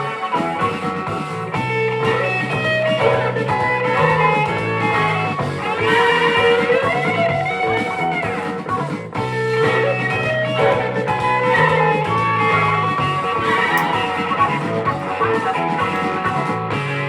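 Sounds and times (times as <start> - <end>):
electric guitar lead with bends: 0.0 - 17.0
rock music: 0.0 - 17.0.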